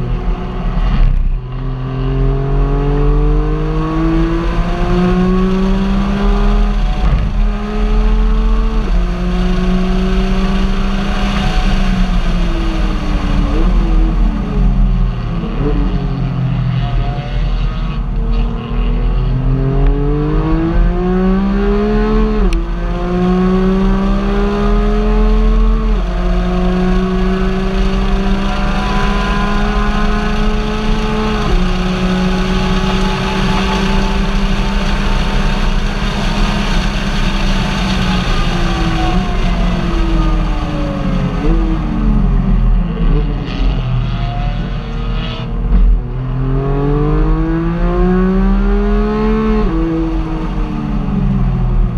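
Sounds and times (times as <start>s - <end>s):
car engine accelerating: 0.0s - 51.9s
road rumble: 0.0s - 51.9s.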